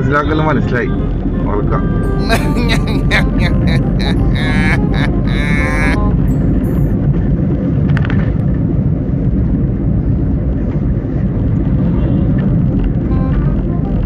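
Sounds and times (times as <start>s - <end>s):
car interior rumble: 0.0s - 14.0s.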